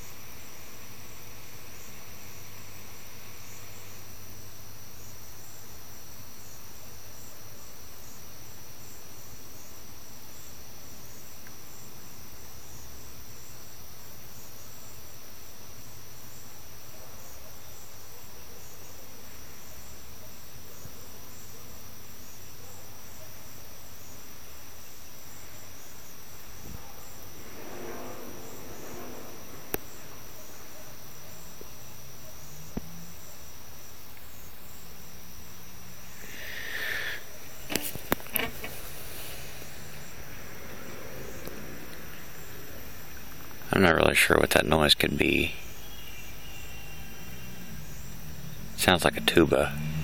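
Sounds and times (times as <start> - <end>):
crickets and insects chirping: 0.0 - 50.0
distant traffic hum: 0.0 - 50.0.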